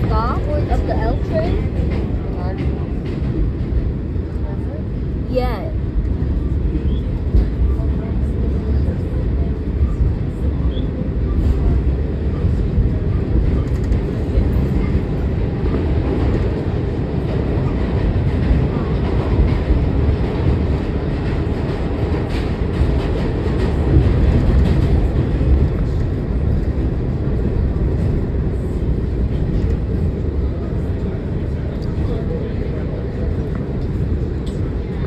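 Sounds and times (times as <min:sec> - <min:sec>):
subway train wheels rumbling: 0:00.0 - 0:35.0.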